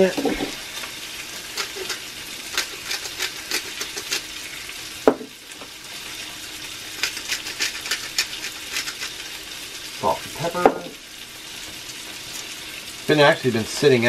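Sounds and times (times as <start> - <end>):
bacon sizzling in a skillet: 0.0 - 14.0.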